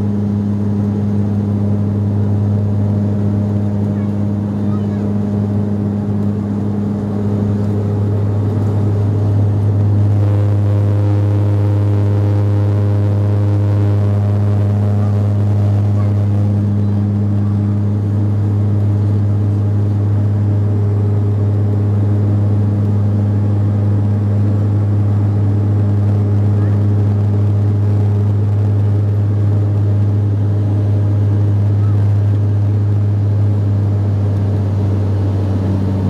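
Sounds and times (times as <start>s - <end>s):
higher engine tone: 0.0s - 36.0s
turboprop cabin drone: 0.0s - 36.0s.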